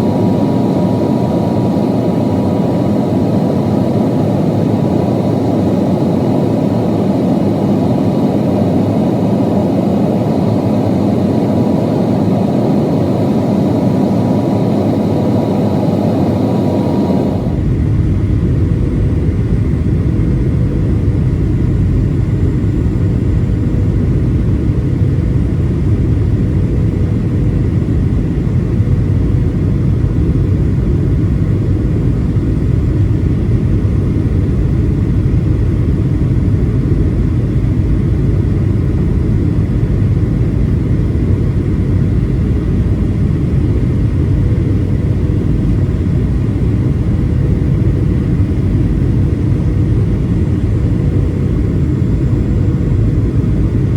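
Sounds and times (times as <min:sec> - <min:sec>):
aircraft engine rumble: 0:00.0 - 0:53.9.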